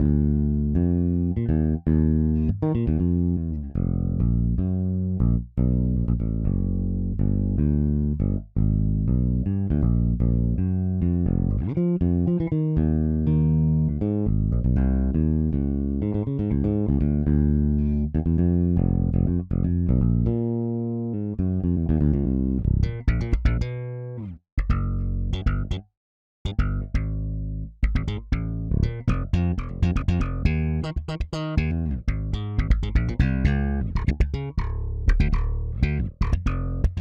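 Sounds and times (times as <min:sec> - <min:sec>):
electric bass funk line: 0:00.0 - 0:25.8, 0:26.4 - 0:37.0.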